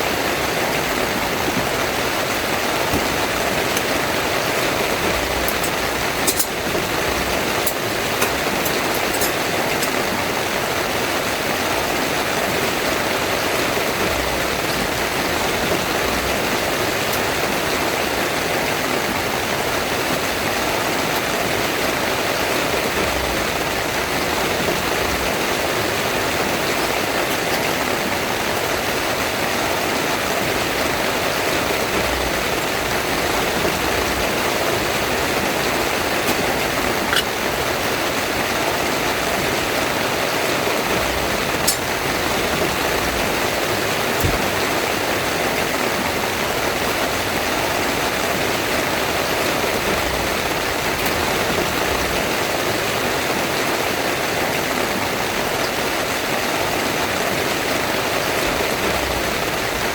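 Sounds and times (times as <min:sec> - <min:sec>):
heavy rain on a tent: 0:00.0 - 0:59.9.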